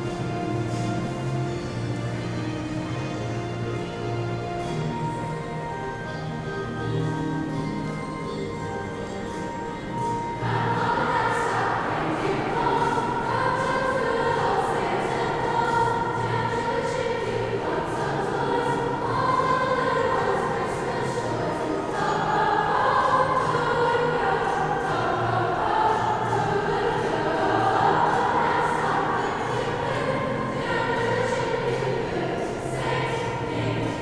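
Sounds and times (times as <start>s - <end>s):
choir singing: 0.0s - 6.1s, 9.9s - 34.0s.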